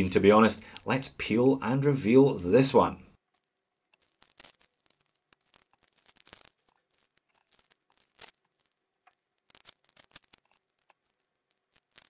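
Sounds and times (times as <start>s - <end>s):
plastic film peeling crackle: 0.0s - 1.4s, 3.2s - 12.0s.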